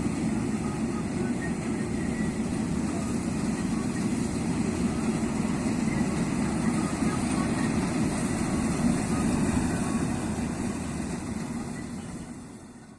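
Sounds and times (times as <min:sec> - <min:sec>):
combine harvester rumbling: 0:00.0 - 0:12.9.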